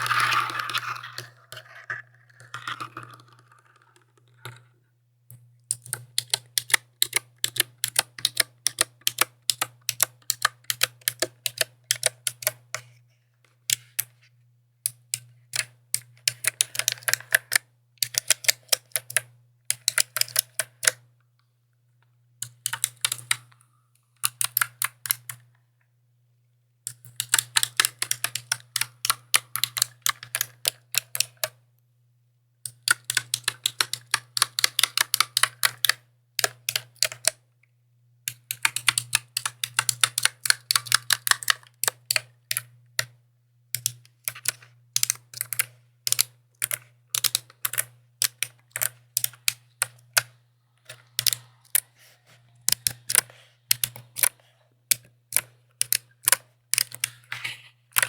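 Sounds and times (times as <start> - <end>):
mechanical keyboard typing: 0.0 - 4.7, 5.7 - 12.7, 14.9 - 21.1, 22.4 - 23.5, 24.2 - 25.5, 26.9 - 31.6, 32.7 - 37.4, 38.3 - 43.2, 43.8 - 51.9, 52.7 - 54.3, 54.9 - 58.0.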